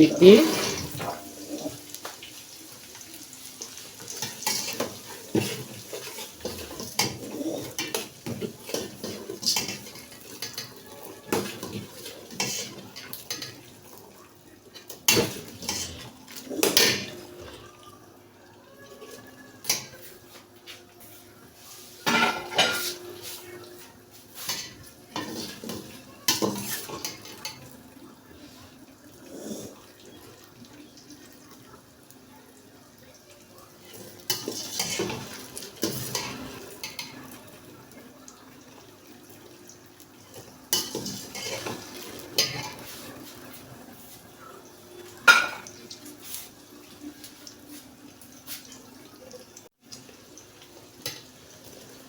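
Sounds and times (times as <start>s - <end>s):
vegetables frying in oil: 0.0s - 17.4s, 21.2s - 52.0s.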